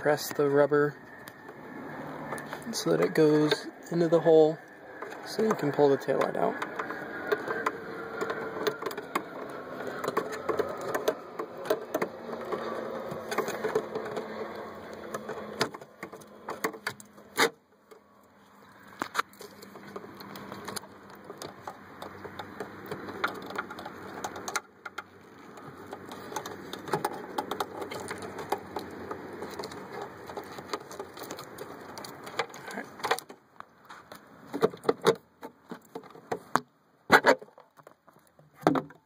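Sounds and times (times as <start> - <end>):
taillight rubbing and scraping: 0.0 - 38.2.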